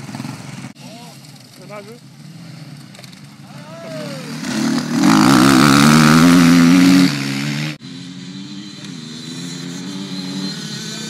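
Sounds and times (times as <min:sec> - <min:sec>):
dirt bike engines revving: 0:00.0 - 0:11.0
distant dirt bikes running: 0:00.0 - 0:11.0.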